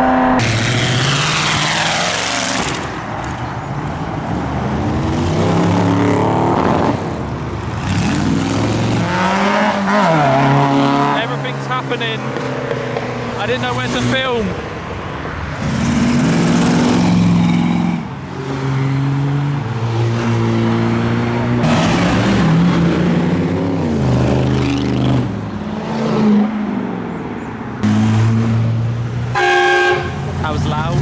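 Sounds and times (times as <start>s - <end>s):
car engines accelerating: 0.0s - 29.4s, 30.0s - 31.0s.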